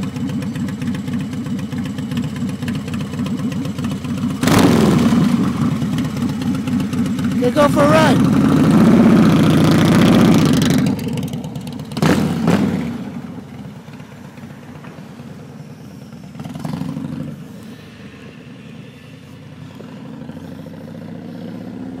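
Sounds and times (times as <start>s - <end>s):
motorcycle engine pulling away: 0.0s - 22.0s.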